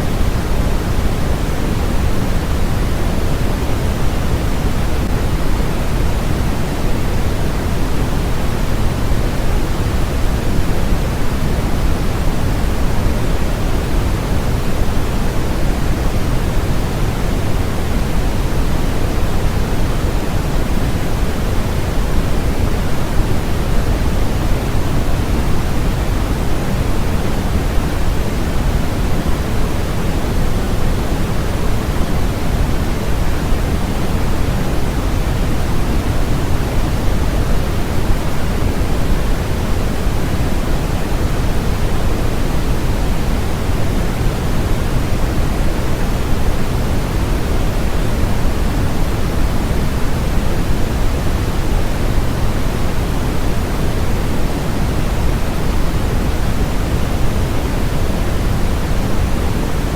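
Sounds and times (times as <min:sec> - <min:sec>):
steady synthetic pink noise: 0:00.0 - 0:59.9.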